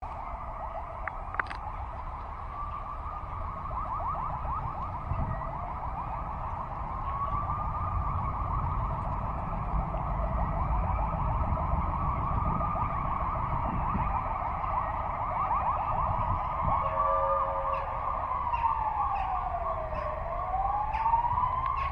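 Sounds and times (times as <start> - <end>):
siren wailing: 0.0 - 21.9.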